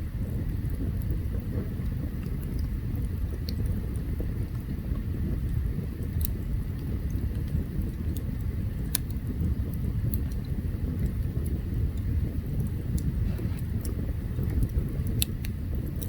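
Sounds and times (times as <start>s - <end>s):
campfire burning: 0.0s - 16.0s
fire crackling and popping: 0.0s - 16.0s.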